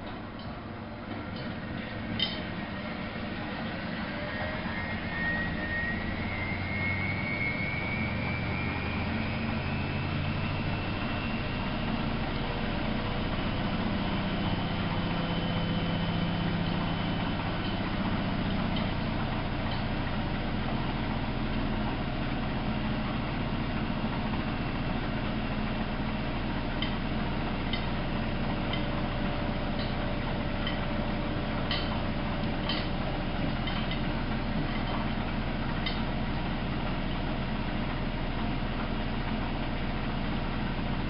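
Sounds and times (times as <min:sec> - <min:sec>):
washing machine motor hum: 0:00.0 - 0:41.0.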